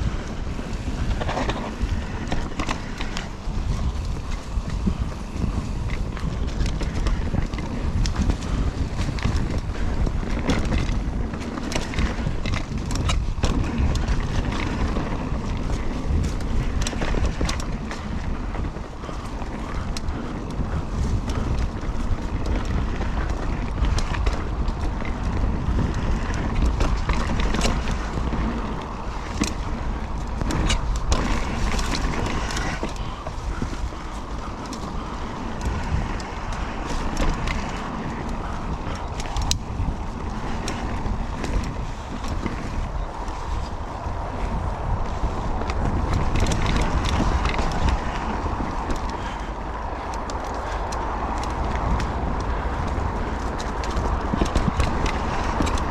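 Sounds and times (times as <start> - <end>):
tyres rumbling on dirt: 0.0 - 55.9
wind buffeting microphone: 0.0 - 55.9.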